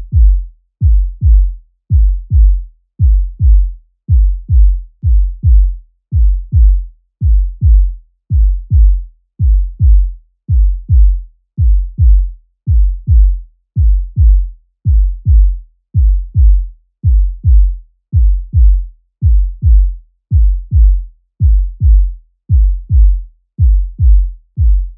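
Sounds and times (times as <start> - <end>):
heartbeat thumps: 0.0 - 24.9.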